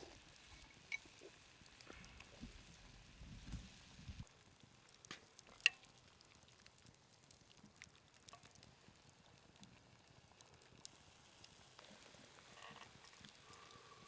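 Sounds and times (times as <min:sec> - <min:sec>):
food sizzling over campfire: 0:00.0 - 0:14.0.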